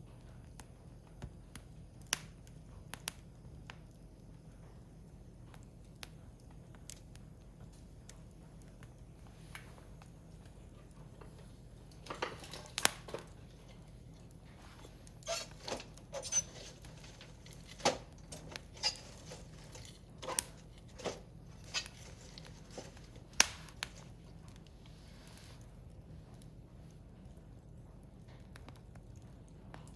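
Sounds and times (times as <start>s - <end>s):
firewood crackling and popping: 0.0s - 29.9s.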